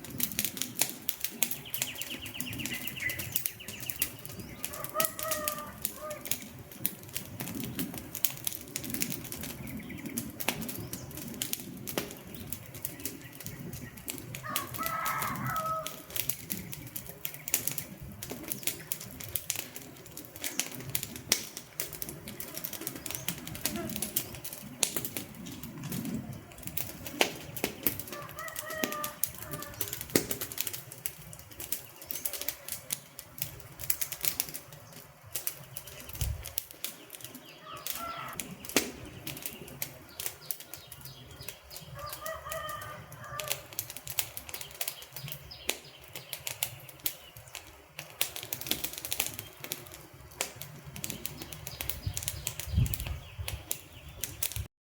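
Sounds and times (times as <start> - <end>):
wood fire crackling: 0.0 - 54.7.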